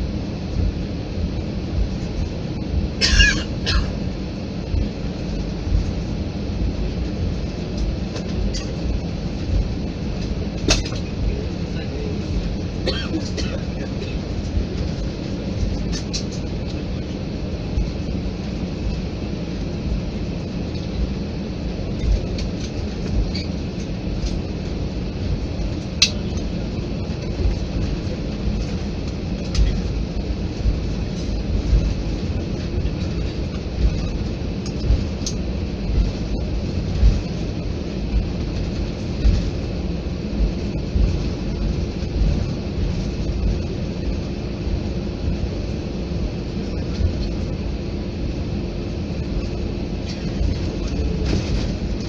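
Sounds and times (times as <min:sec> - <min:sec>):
airliner cabin rumble: 0:00.0 - 0:52.0.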